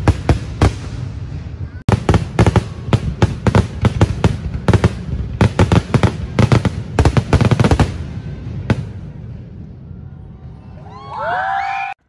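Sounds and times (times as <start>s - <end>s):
fireworks banging: 0.0s - 9.8s.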